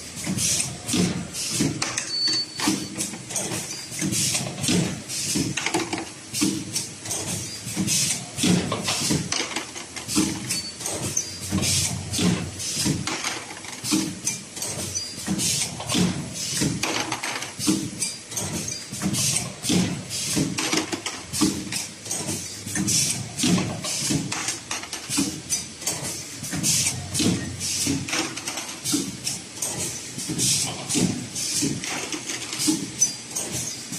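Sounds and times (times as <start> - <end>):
machine rhythmic mechanical clatter: 0.0 - 33.9.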